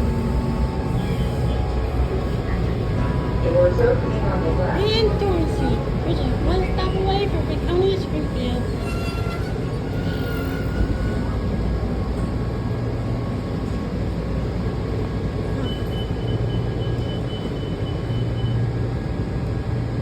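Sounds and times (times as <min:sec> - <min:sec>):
train car rumble and hum: 0:00.0 - 0:20.0.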